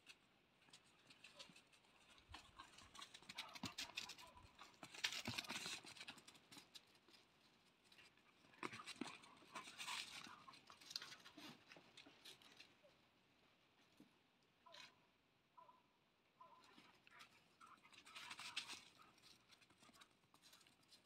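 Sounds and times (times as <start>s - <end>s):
puppies' paws scrabbling on dirt: 0.0s - 14.1s, 16.4s - 21.0s.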